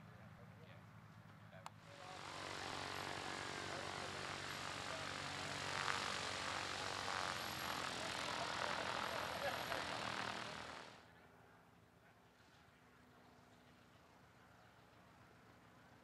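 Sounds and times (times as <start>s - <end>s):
light aircraft engine and propeller: 0.0s - 16.0s.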